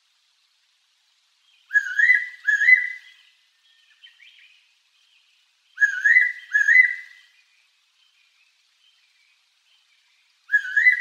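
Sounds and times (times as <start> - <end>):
faint bird chirps: 1.4 - 11.0.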